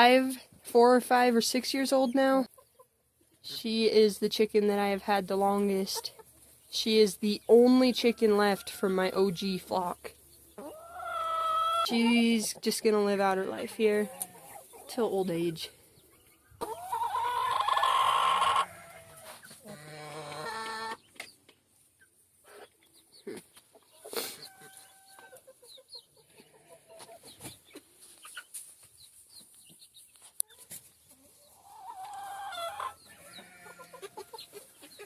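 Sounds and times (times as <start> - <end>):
chickens clucking and calling: 1.9 - 3.5, 4.8 - 35.0.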